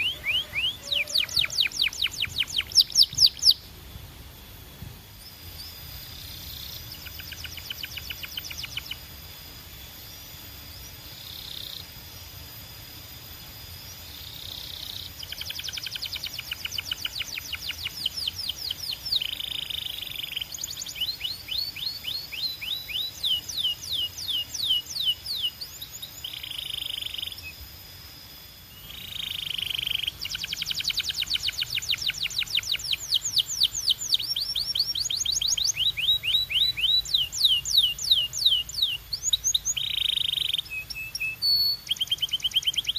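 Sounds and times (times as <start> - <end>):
canary singing: 0.0 - 3.8, 5.2 - 9.5, 13.9 - 27.6, 28.8 - 42.9.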